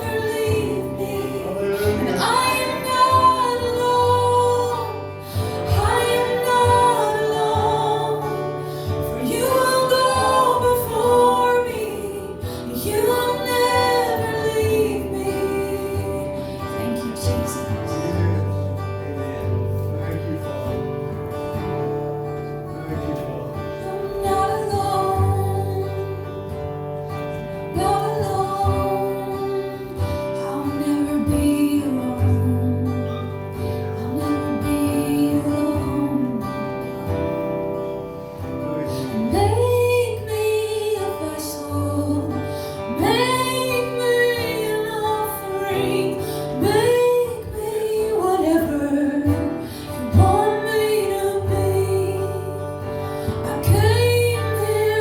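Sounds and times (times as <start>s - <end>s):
woman singing: 0.0s - 19.5s, 23.6s - 38.0s, 38.6s - 55.0s
acoustic guitar: 0.0s - 55.0s.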